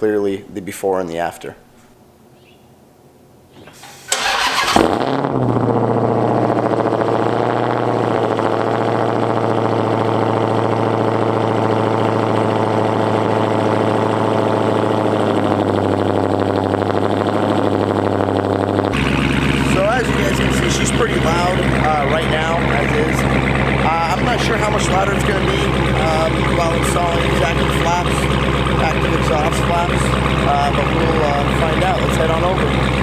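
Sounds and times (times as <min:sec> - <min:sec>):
loud car engine starting and idling: 0:03.5 - 0:33.0.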